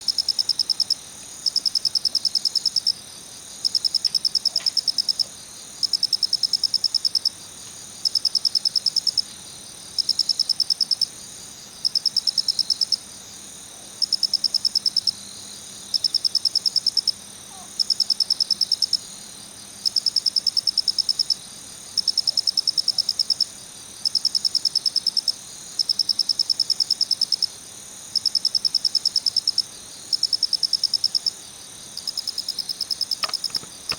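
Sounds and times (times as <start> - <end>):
cricket chirping trills: 0.0 - 33.9.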